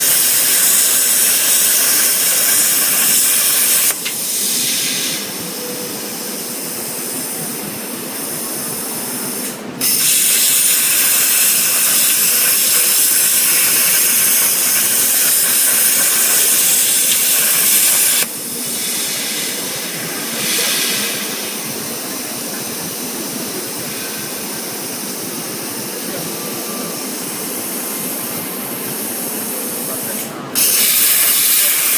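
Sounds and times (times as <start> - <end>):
cutting torch hissing loudly: 0.0 - 5.5, 8.2 - 31.9.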